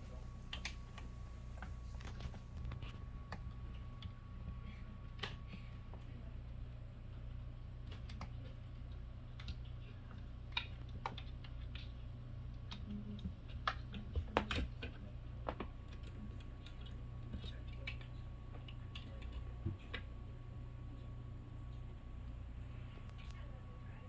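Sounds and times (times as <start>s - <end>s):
kitten paws clicking and tapping: 0.1s - 20.2s.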